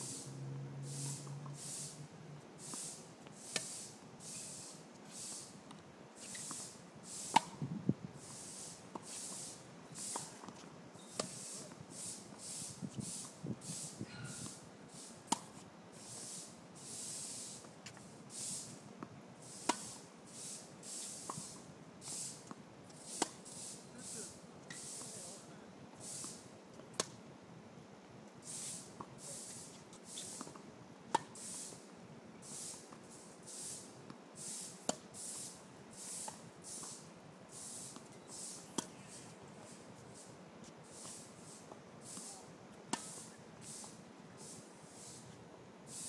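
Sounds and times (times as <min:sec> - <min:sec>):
hiss: 0:00.0 - 0:05.6, 0:06.2 - 0:07.6, 0:08.2 - 0:10.5, 0:11.1 - 0:15.4, 0:16.0 - 0:17.7, 0:18.3 - 0:18.8, 0:19.4 - 0:25.4, 0:26.0 - 0:26.5, 0:28.4 - 0:30.6, 0:31.3 - 0:31.8, 0:32.4 - 0:45.3.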